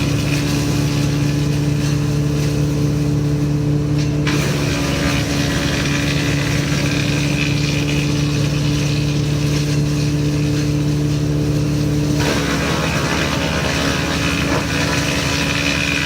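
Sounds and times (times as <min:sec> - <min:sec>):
woodchipper engine running: 0:00.0 - 0:16.0.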